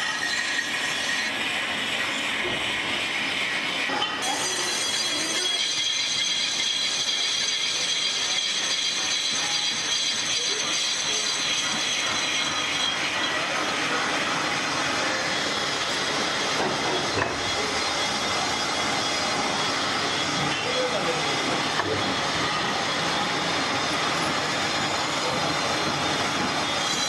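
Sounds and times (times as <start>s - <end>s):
high metallic whine: 0.0s - 27.0s
metal lathe cutting: 0.0s - 27.0s.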